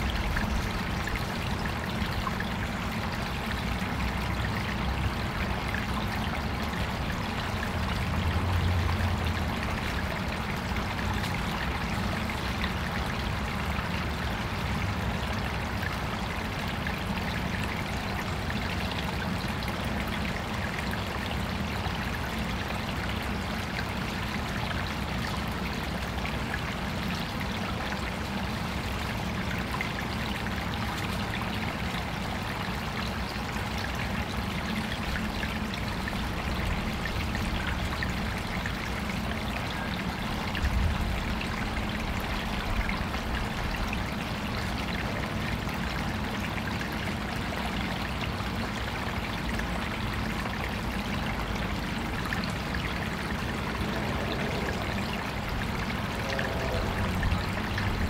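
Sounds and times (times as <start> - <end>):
water trickling in stream: 0.0 - 58.0.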